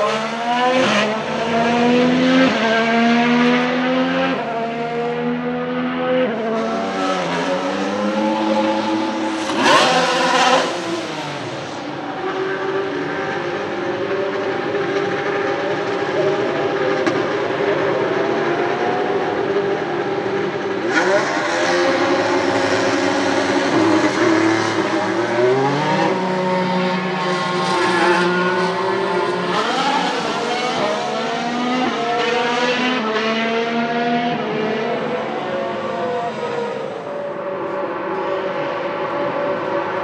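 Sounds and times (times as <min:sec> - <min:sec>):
racing car engine accelerating: 0:00.0 - 0:40.0.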